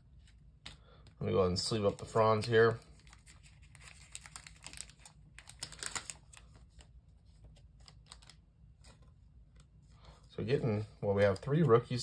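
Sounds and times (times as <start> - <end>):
plastic sleeve crinkling: 0.1 - 9.8.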